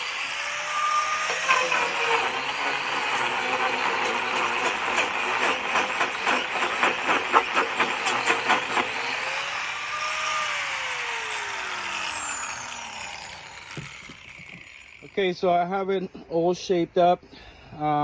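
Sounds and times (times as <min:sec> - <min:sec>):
grinder motor winding down: 0:00.0 - 0:15.6
angle grinder grinding wood: 0:00.0 - 0:15.9.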